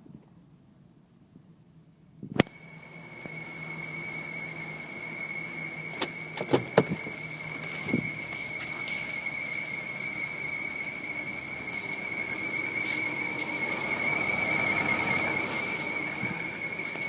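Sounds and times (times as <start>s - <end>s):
high-pitched car squeal: 2.6s - 17.0s.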